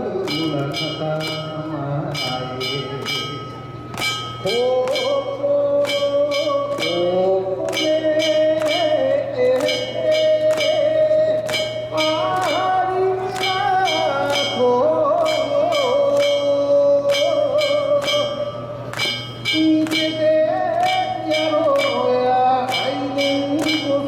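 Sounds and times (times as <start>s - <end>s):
accompaniment with percussive beat: 0.0s - 24.0s
person singing ornamented notes: 0.0s - 24.0s.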